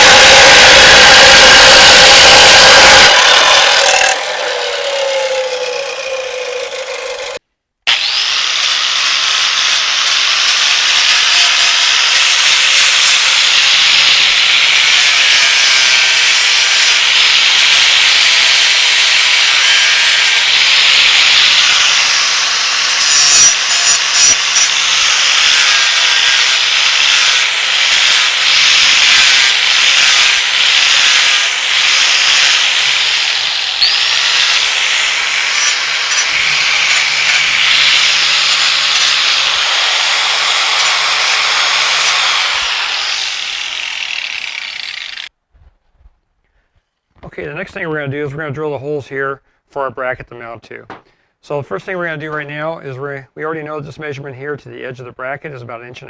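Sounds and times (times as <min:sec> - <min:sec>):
power tool cutting metal: 0:00.0 - 0:45.3
tool winding down: 0:00.0 - 0:45.3.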